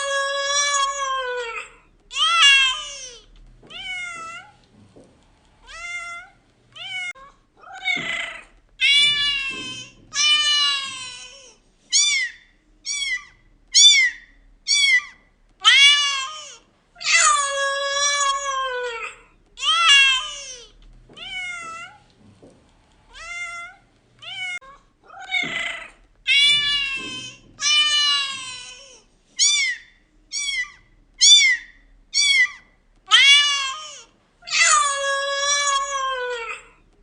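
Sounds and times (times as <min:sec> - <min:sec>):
cat meowing: 0:00.0 - 0:04.6, 0:05.6 - 0:22.0, 0:23.1 - 0:31.6, 0:32.2 - 0:36.8.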